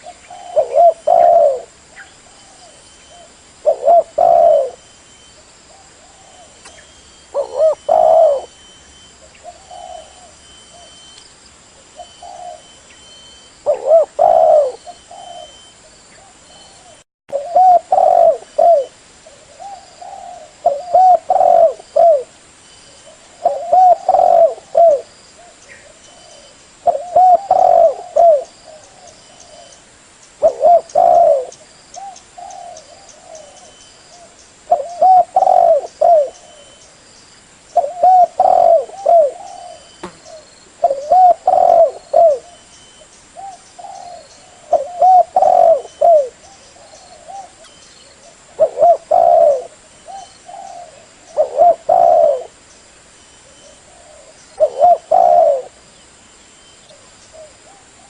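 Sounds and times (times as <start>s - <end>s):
dove cooing: 0.0s - 11.1s, 11.8s - 22.3s, 23.0s - 29.8s, 30.4s - 36.9s, 37.8s - 42.7s, 43.4s - 52.6s, 53.4s - 55.8s.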